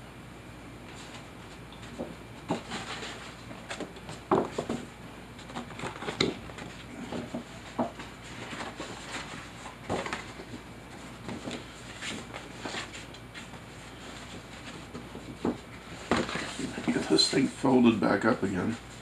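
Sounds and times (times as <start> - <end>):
paper poster rustling: 0.9 - 19.0.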